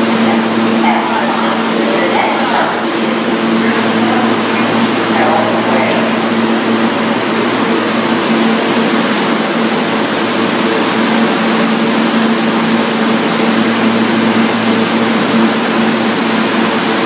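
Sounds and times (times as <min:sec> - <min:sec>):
low steady hum: 0:00.0 - 0:17.0
subway train rumble and hiss: 0:00.0 - 0:17.0.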